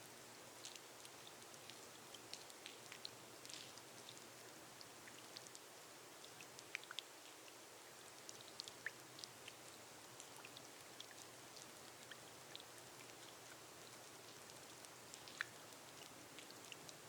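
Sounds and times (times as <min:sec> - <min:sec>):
rain hiss on glass roof: 0:00.0 - 0:17.0.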